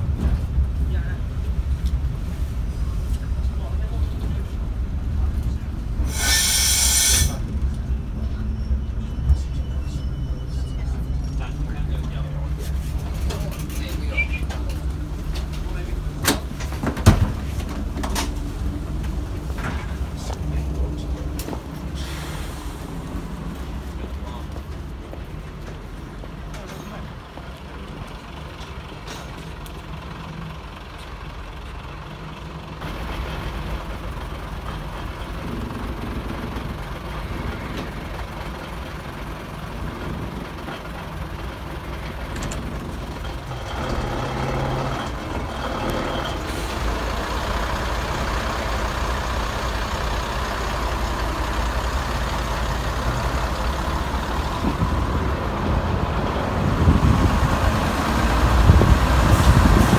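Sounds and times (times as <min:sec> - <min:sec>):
railcar diesel engine: 0:00.0 - 0:59.9.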